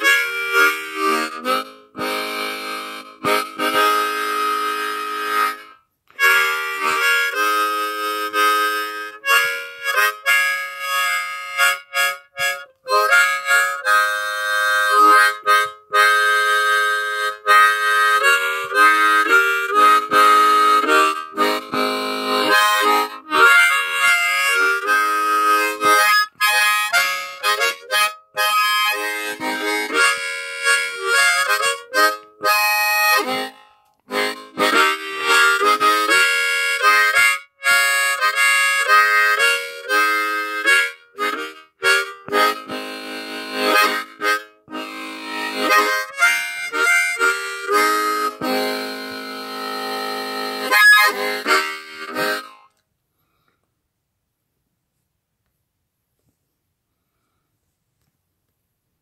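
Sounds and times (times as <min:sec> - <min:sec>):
harmonica playing blues riffs: 0:00.0 - 0:52.8.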